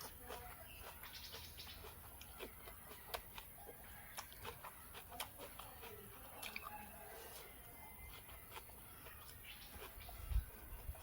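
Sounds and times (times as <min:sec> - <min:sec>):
chewing food with crunches: 0:00.0 - 0:11.0.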